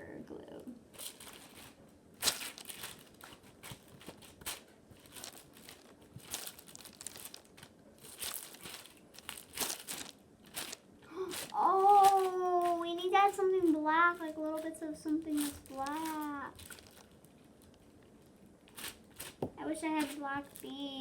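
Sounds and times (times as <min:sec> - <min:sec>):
slime crinkling and crackling: 0:00.9 - 0:21.0.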